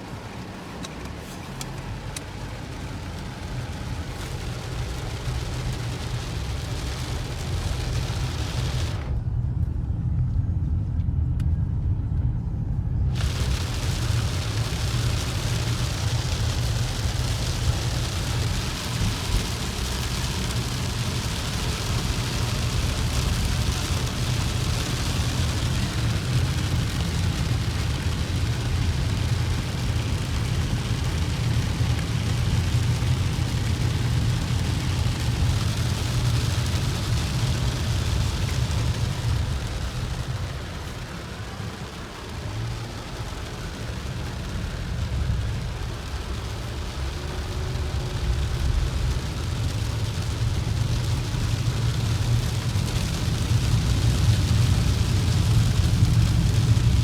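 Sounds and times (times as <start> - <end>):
rain hissing on wet tyres: 0.0 - 9.2, 13.0 - 57.0
car road rumble: 0.0 - 57.0.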